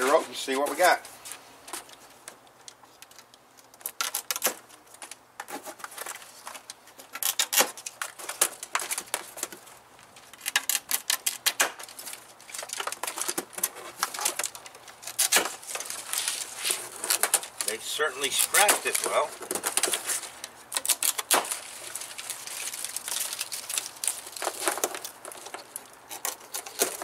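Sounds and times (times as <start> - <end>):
plastic straps snapping and clicking: 1.8 - 5.2, 5.9 - 9.6, 10.2 - 17.7, 18.3 - 27.0.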